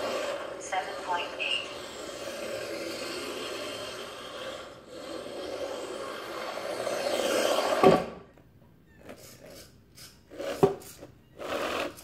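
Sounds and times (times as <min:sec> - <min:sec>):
toy car motor whirring: 0:00.0 - 0:08.0, 0:09.0 - 0:12.0.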